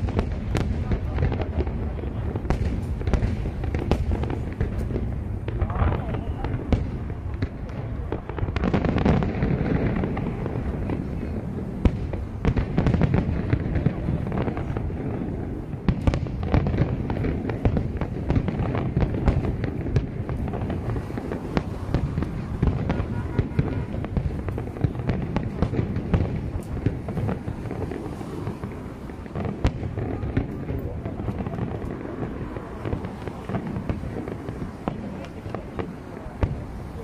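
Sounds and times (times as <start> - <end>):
fireworks bangs and crackles: 0.0 - 37.0
rumble of fireworks shell bursts: 0.0 - 37.0.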